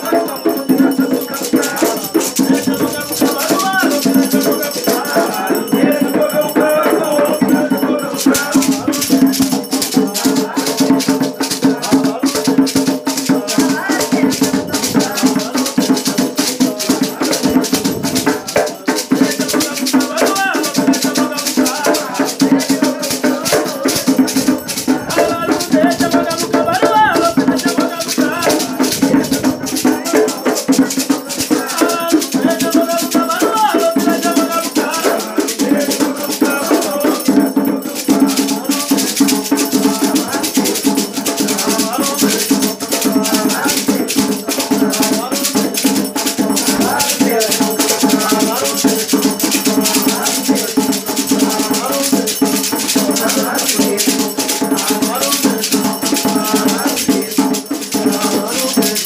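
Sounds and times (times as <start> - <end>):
rattles shaken: 0.0 - 59.0
voices chanting: 0.0 - 59.0.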